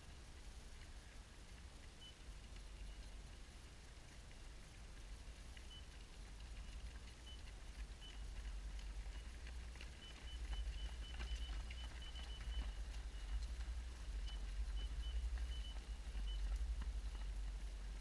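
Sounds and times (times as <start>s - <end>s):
running footsteps on trail: 0.1s - 18.0s.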